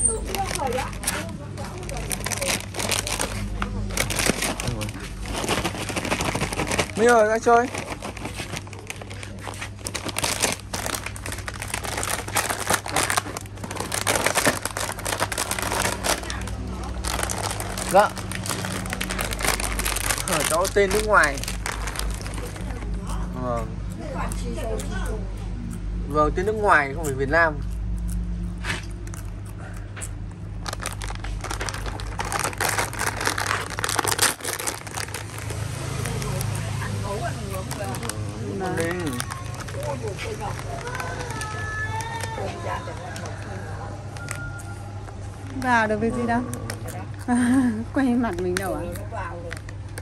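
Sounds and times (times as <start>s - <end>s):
crinkling and crackling: 0.0s - 23.3s, 28.6s - 50.0s
steady low hum: 0.0s - 41.4s.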